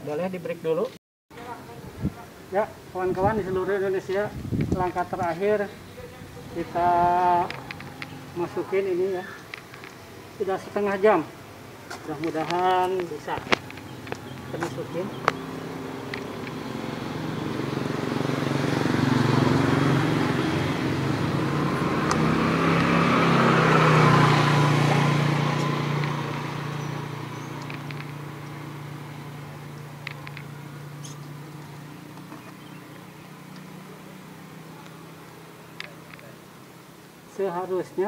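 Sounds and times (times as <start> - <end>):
motor vehicle passing by: 1.4 - 38.0.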